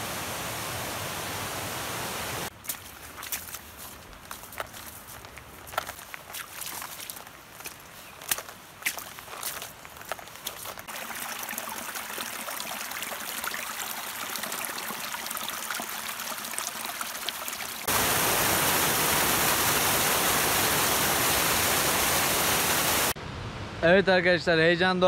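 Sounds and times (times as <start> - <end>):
stream flowing: 0.0 - 23.2.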